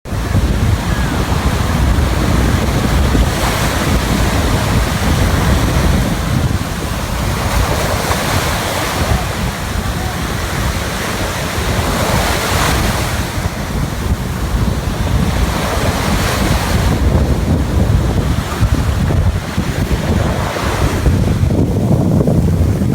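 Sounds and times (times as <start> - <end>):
wind buffeting microphone: 0.0 - 22.9
surf washing onto beach: 0.1 - 22.9.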